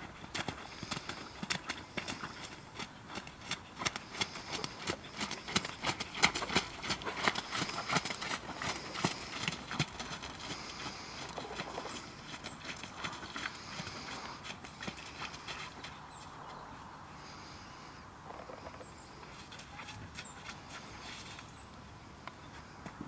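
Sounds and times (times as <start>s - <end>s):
horse trotting on wet sand: 0.0s - 16.7s, 19.1s - 21.7s.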